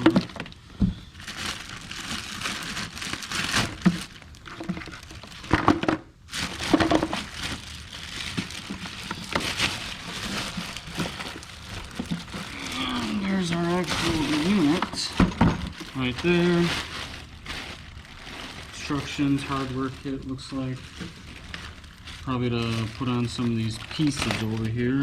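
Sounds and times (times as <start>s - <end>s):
packaging rustling and crumpling: 0.0s - 25.0s.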